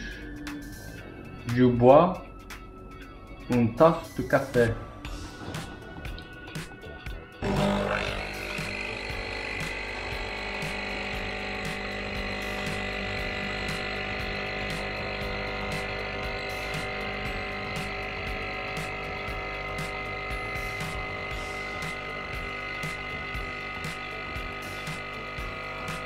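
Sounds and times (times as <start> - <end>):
coffee machine pump buzzing: 5.1 - 26.0.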